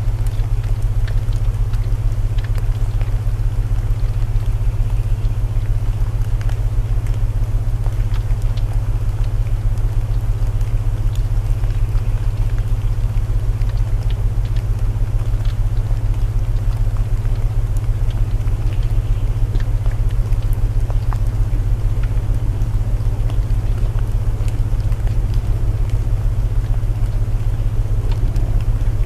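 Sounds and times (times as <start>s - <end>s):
burning wood crackling: 0.0s - 29.0s
rain hiss: 0.0s - 29.0s.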